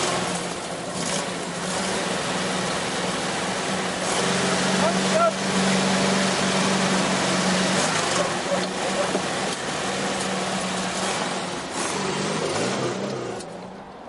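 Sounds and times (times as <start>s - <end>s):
pump engine running: 0.0s - 13.6s.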